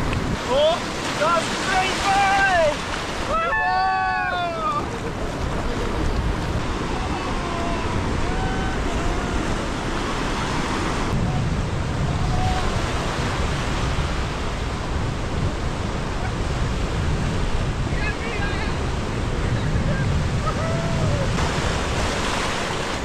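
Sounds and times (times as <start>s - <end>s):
ocean surf rushing: 0.0s - 23.0s.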